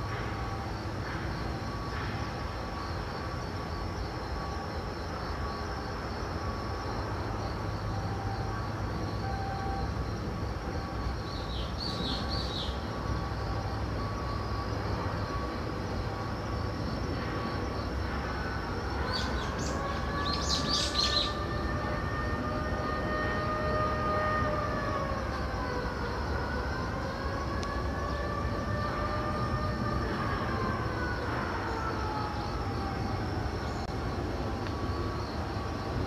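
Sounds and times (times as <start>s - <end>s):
mechanical drone with whining tones: 0.0s - 36.0s.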